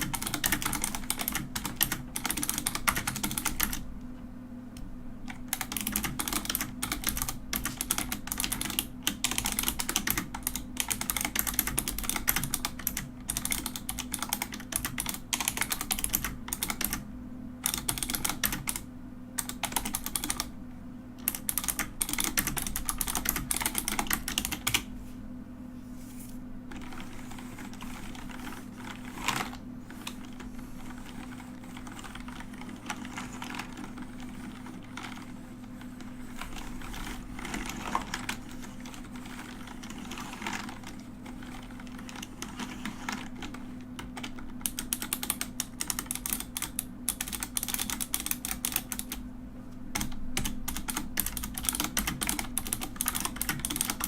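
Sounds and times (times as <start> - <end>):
mechanical keyboard typing: 0.0 - 3.9, 5.2 - 17.0, 17.6 - 20.5, 21.2 - 24.9, 26.7 - 49.2, 49.9 - 54.0.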